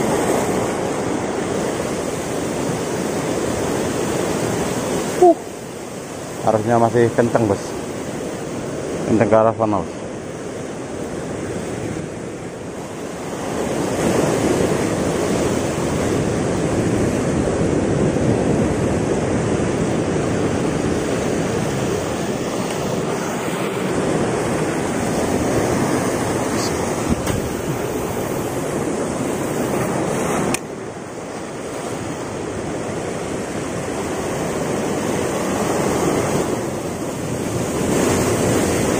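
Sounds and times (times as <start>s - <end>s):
waves breaking on rocks: 0.0s - 38.9s.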